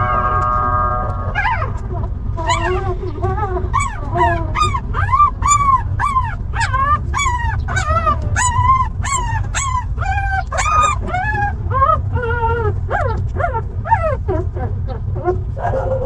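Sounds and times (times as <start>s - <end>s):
steady low rumble: 0.0s - 16.0s
puppies whimpering: 1.3s - 16.0s.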